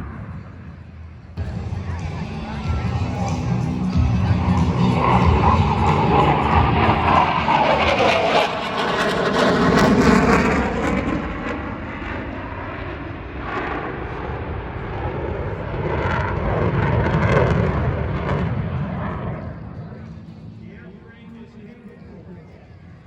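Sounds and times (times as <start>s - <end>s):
aircraft engine passing: 0.0s - 23.0s.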